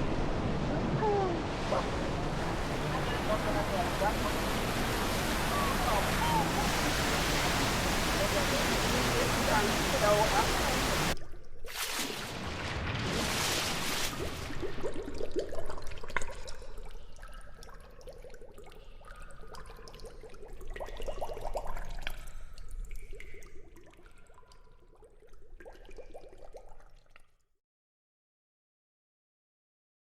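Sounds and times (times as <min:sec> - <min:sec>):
water splashing and dripping: 0:01.2 - 0:27.4.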